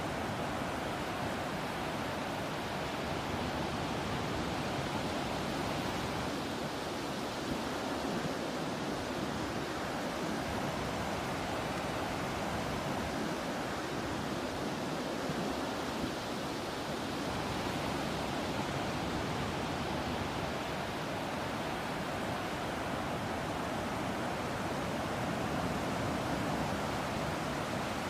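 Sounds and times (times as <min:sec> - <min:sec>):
sea breeze: 0:00.0 - 0:28.0.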